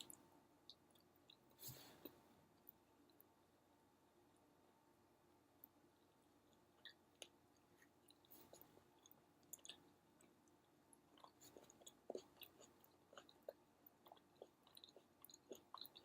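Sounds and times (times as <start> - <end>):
person chewing food: 0.0 - 3.3, 5.6 - 16.0.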